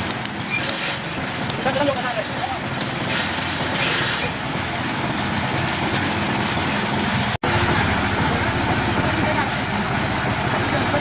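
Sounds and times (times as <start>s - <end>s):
machine running with low flutter: 0.1s - 11.0s.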